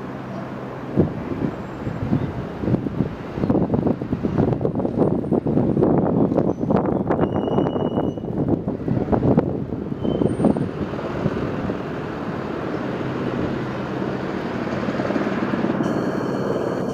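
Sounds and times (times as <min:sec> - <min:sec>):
low engine rumble: 0:00.0 - 0:06.4, 0:08.4 - 0:16.9
gusty wind buffeting: 0:00.0 - 0:16.9.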